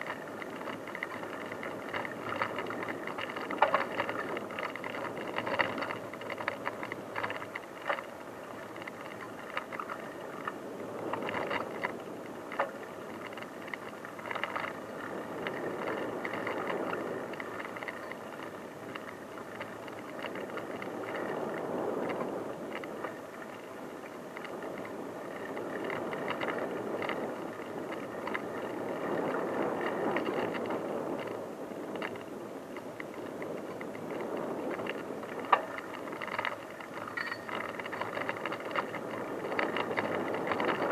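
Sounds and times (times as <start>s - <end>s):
bicycle rattles and knocks: 0.0s - 40.9s
bicycle tyres on unpaved track: 0.0s - 40.9s.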